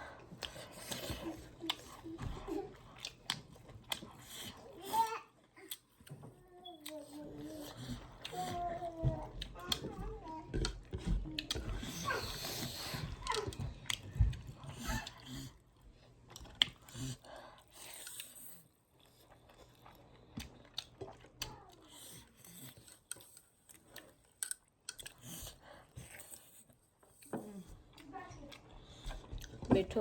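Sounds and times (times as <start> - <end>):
close chewing with mouth clicks: 0.0 - 30.0.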